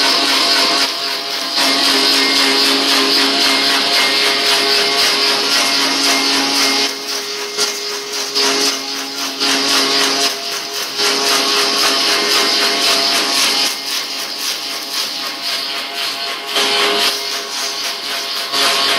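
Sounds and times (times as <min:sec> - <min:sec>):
electric motor humming: 0:00.0 - 0:18.9.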